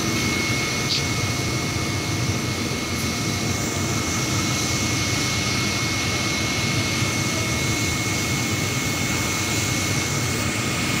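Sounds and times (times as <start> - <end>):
high machine whine: 0.0 - 11.0.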